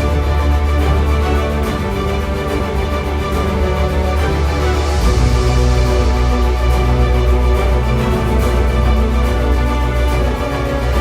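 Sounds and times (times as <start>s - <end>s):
theme-style music with deep bass: 0.0s - 11.0s.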